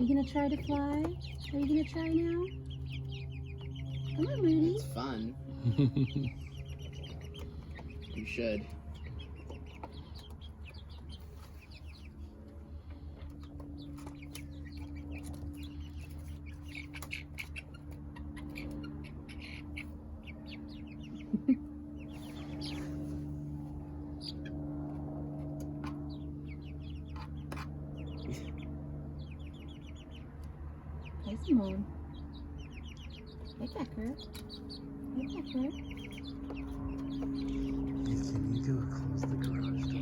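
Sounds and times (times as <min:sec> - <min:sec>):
steady low hum: 0:00.0 - 0:40.0
young chickens peeping: 0:00.0 - 0:40.0.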